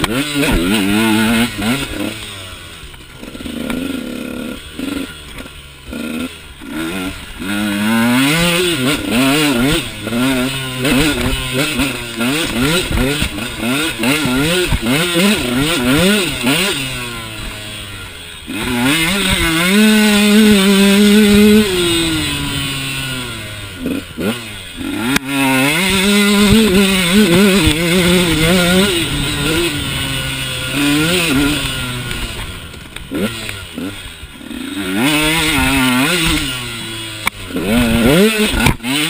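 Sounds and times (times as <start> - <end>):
two-stroke motorcycle engine revving: 0.0 - 39.0.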